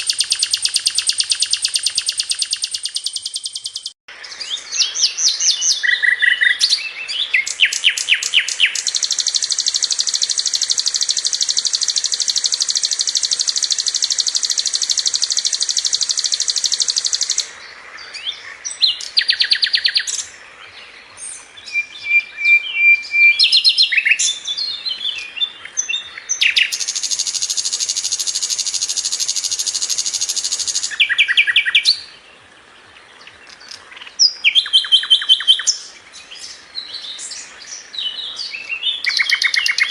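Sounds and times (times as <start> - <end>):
bird chirps and repeated notes: 0.0 - 4.0, 4.8 - 17.5, 18.4 - 20.3, 21.7 - 32.1, 33.4 - 35.8, 37.4 - 39.9
bird singing fast trills: 0.0 - 20.4, 21.2 - 32.3, 33.2 - 39.9.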